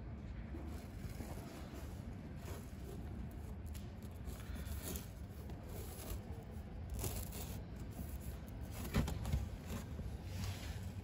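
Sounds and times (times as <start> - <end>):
rustling and handling noises: 0.2 - 11.0.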